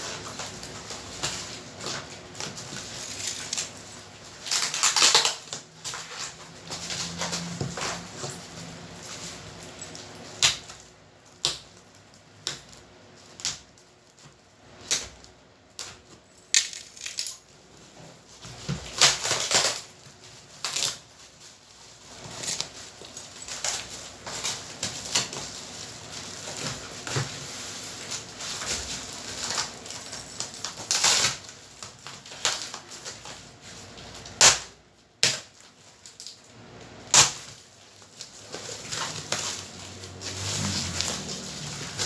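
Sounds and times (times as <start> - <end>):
cardboard packaging rustling: 0.0 - 34.4, 35.3 - 42.0.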